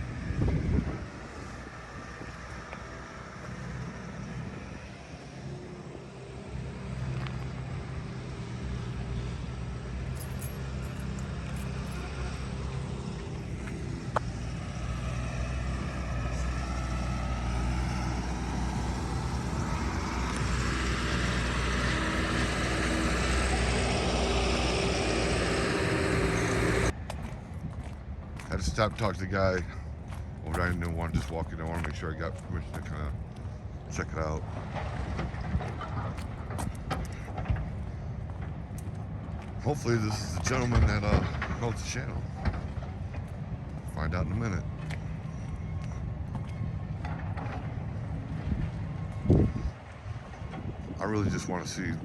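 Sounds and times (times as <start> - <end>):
motor engine running: 0.0 - 52.0.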